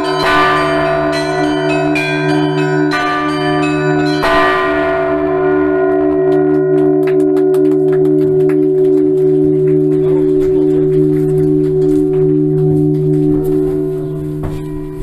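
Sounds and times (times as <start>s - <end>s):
large bell humming: 0.0s - 15.0s
loud bell strike: 0.0s - 15.0s
small bells ringing: 0.0s - 15.0s.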